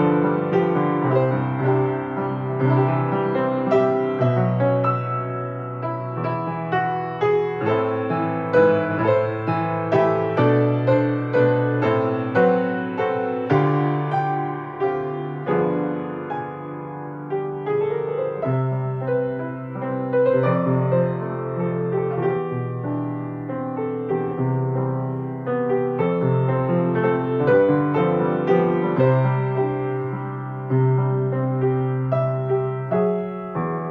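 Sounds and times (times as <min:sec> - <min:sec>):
solo piano music: 0:00.0 - 0:33.9.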